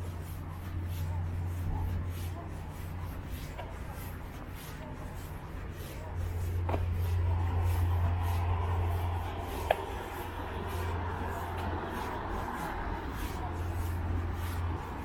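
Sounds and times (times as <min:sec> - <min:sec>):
footsteps: 0:00.0 - 0:15.0
low steady rumble: 0:00.0 - 0:15.0.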